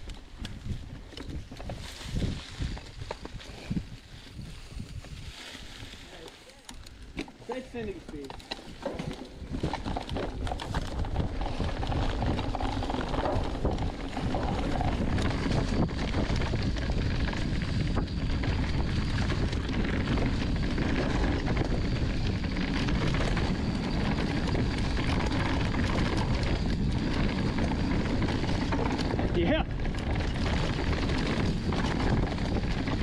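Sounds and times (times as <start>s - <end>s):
wind rushing over microphone: 0.0s - 6.3s, 9.3s - 33.0s
bike rattling: 0.0s - 33.0s
tyres on dirt: 0.0s - 33.0s.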